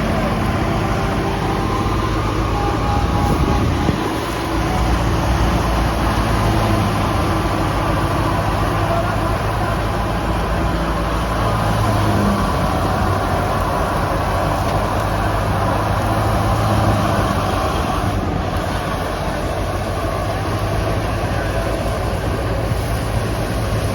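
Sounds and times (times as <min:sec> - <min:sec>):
tractor engine hum: 0:00.0 - 0:23.9
wheat thresher running: 0:00.0 - 0:23.9.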